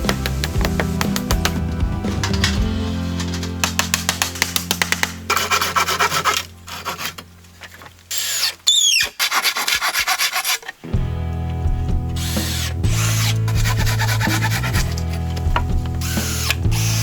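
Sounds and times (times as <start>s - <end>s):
background music with low notes: 0.0s - 7.6s, 10.8s - 17.0s
rubbing and scraping on wood: 0.0s - 10.8s, 12.2s - 17.0s.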